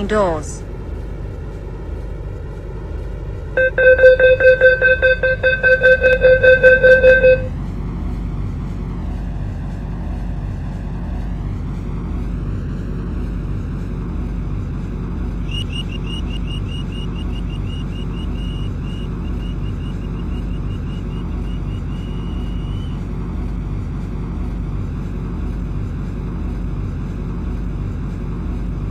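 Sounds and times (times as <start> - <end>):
train running: 0.0 - 28.9.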